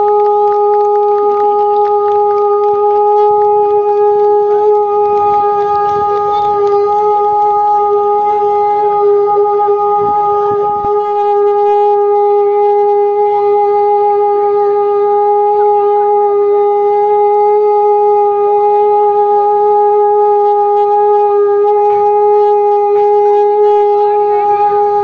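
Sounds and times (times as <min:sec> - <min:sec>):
conch shell blown: 0:00.0 - 0:25.0.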